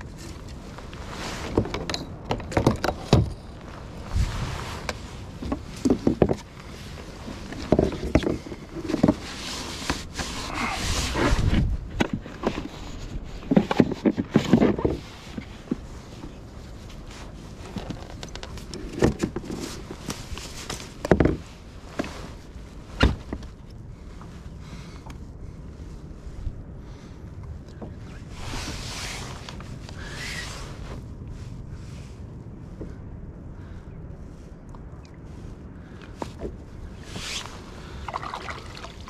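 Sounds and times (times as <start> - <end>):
rustling: 0.0 - 39.0.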